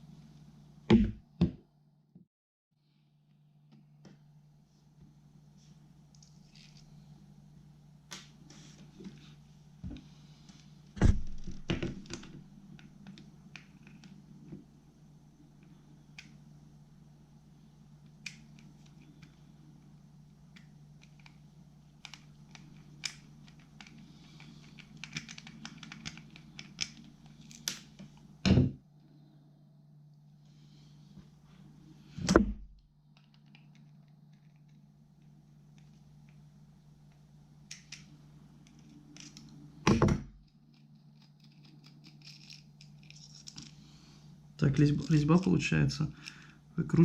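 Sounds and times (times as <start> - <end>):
steady low hum: 2.8 - 47.0.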